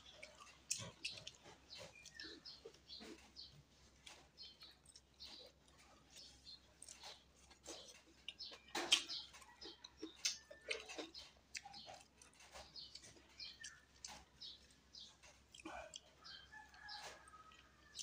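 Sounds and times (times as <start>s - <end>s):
wet chewing and lip smacking: 0.0s - 18.0s.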